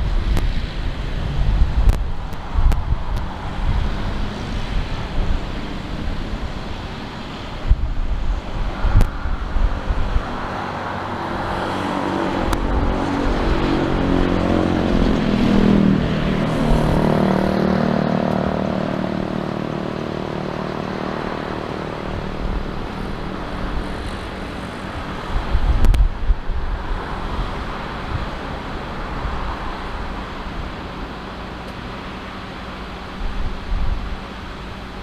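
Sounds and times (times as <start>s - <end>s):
wind buffeting microphone: 0.0s - 32.0s, 32.7s - 35.0s
jet airliner passing: 0.0s - 35.0s.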